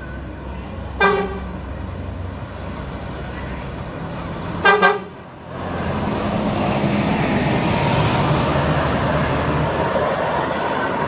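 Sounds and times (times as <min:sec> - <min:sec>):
bus diesel engine droning: 0:00.0 - 0:11.0
road noise: 0:00.0 - 0:11.0.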